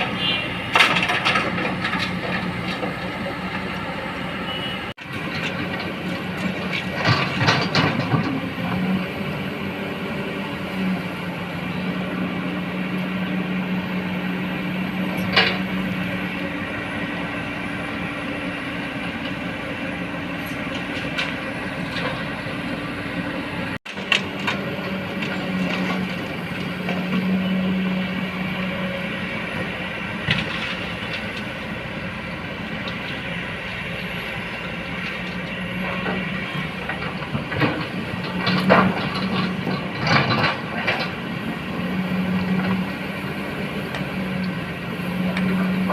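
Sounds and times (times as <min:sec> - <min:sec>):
constant machine whine: 0:00.0 - 0:45.9
diesel engine drone: 0:00.0 - 0:45.9.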